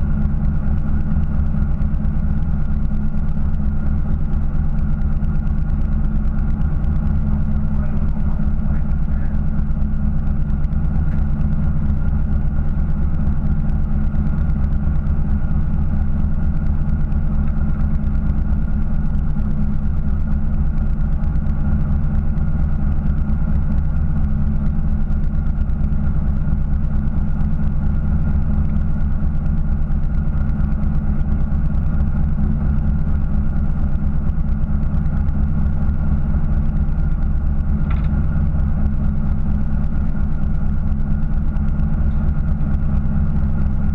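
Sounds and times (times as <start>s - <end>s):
boat engine idling: 0.0s - 43.9s.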